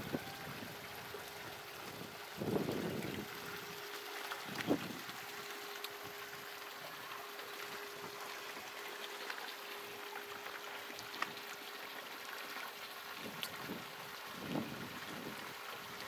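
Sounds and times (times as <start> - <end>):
faint steady hum: 0.0 - 16.0
stream trickling over rocks: 0.0 - 16.0.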